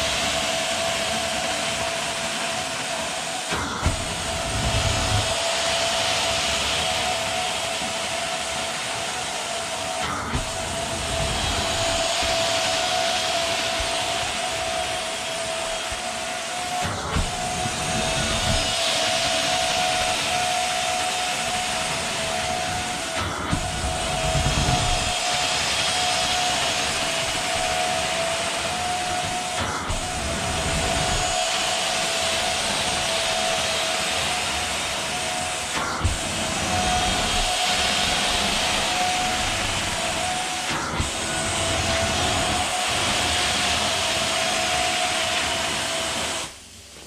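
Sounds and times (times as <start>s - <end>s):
carpet cleaning machine hiss: 0.0s - 47.0s
extraction vacuum running: 0.0s - 47.0s.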